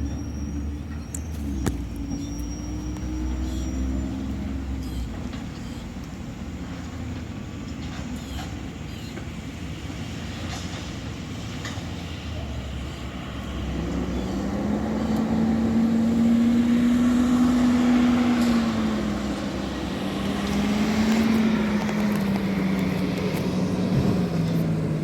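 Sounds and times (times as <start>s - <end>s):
garbage truck engine running: 0.0s - 25.0s.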